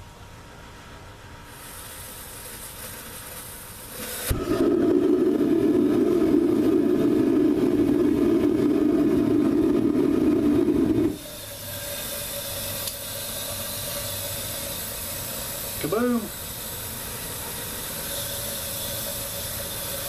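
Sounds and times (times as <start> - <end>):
gas burner roaring: 1.5 - 20.0
gas hissing: 1.5 - 20.0.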